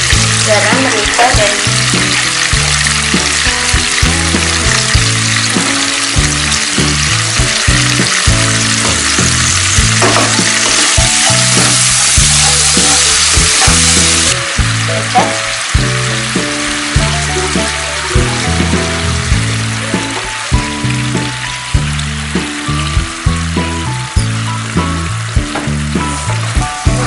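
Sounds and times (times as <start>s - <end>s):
background music: 0.0s - 27.0s
sauce sizzling in a wok: 0.0s - 27.0s.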